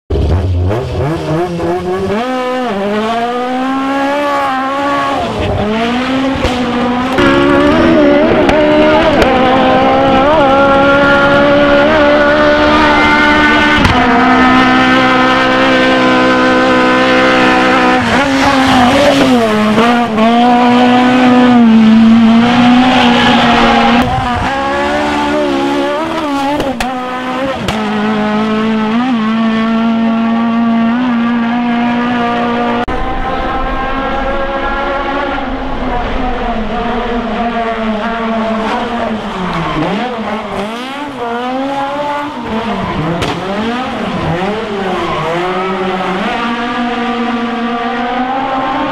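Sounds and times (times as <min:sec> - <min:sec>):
rally car engine revving: 0:00.1 - 0:48.9.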